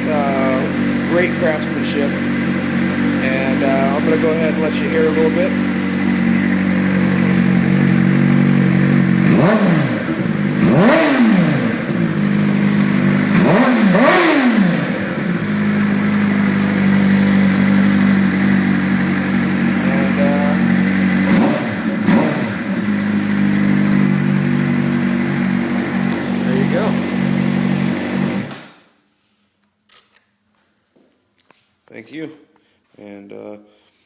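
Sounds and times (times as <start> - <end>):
motorcycle engine idling and revving: 0.0 - 28.8.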